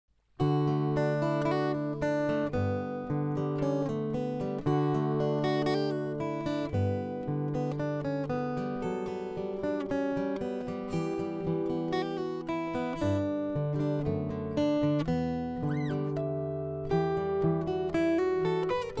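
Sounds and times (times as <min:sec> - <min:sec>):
acoustic guitar playing: 0:00.4 - 0:19.0.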